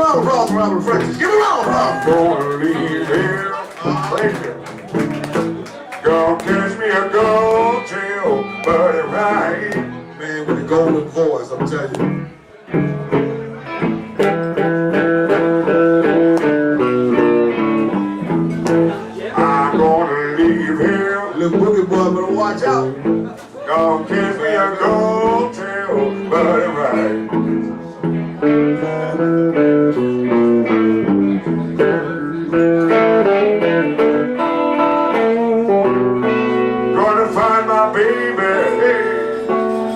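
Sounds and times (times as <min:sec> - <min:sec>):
blues guitar riff: 0:00.0 - 0:39.9
person singing blues: 0:00.0 - 0:39.9.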